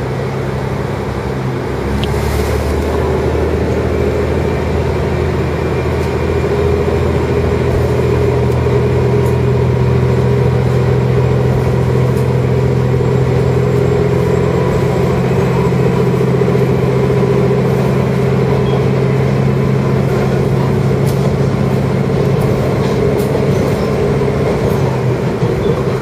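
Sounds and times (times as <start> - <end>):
rail rumble: 0.0 - 26.0
railcar engine drone: 0.0 - 26.0.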